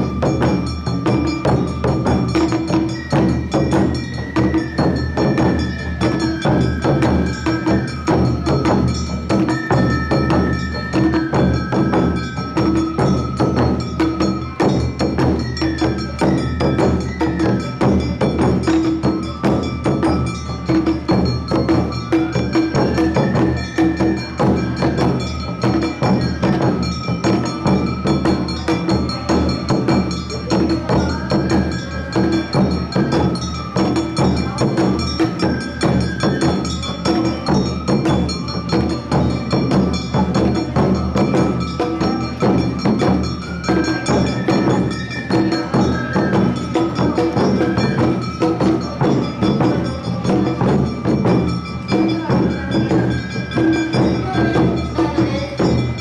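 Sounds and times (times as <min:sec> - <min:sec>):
bamboo flute melody: 0:00.0 - 0:56.0
taiko drums: 0:00.0 - 0:56.0.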